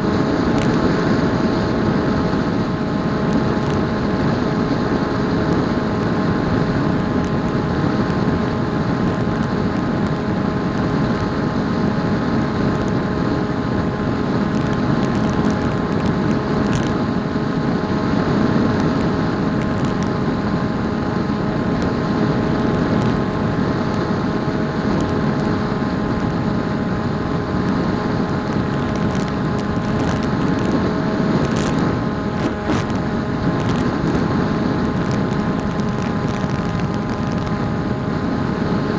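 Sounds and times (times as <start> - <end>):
electric motor whine: 0.0 - 38.9
wind rushing on microphone: 0.0 - 38.9.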